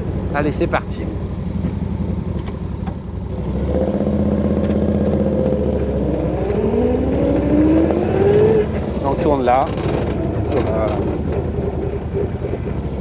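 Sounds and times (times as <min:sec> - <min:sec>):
engine pulling away: 0:00.0 - 0:13.0.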